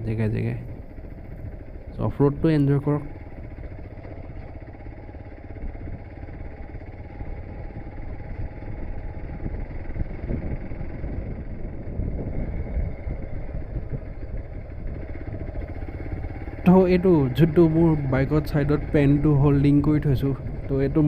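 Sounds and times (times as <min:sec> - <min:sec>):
motorcycle riding off-road: 0:00.0 - 0:21.0.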